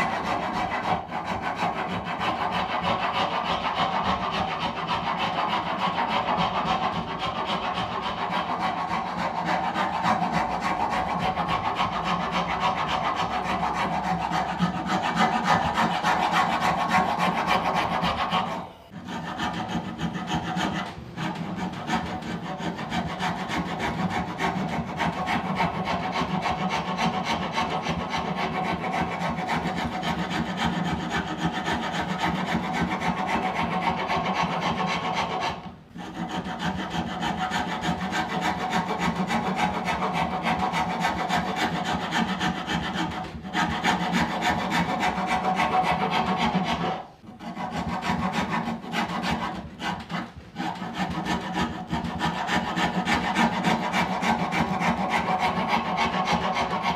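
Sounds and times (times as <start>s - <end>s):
wood rasp scraping: 0.0s - 56.9s.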